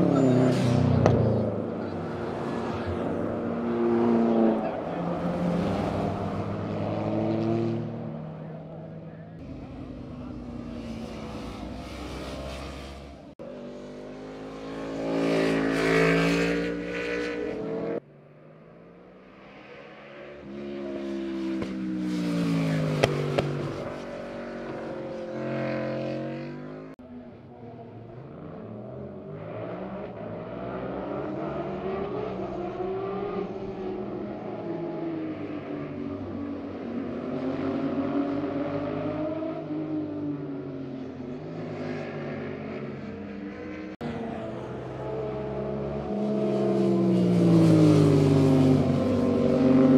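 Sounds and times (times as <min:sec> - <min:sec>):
sport motorcycles passing: 0:00.0 - 0:49.9.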